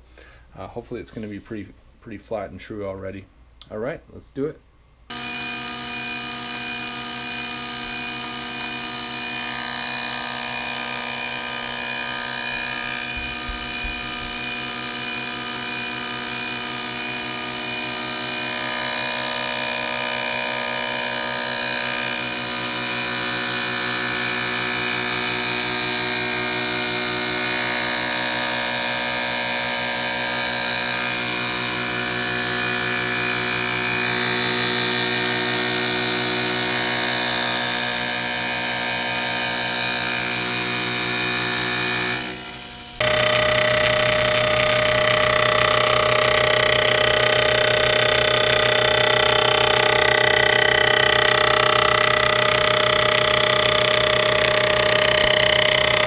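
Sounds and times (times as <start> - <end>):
milling machine high whine: 5.1 - 56.0.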